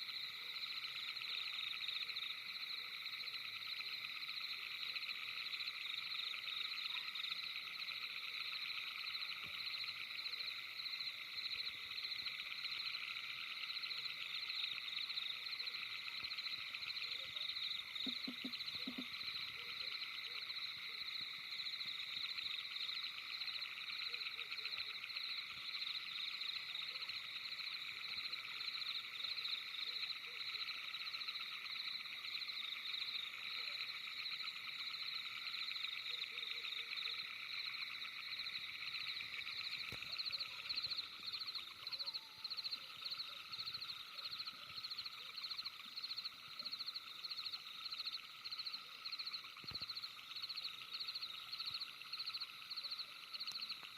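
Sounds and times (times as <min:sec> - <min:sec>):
night chorus of calling animals: 0:00.0 - 0:53.9.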